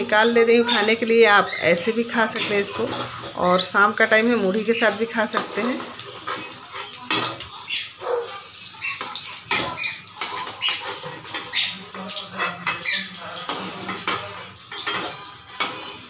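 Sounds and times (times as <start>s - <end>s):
metal spatula scraping a steel pan: 0.6s - 3.7s, 4.6s - 8.0s, 8.9s - 16.0s.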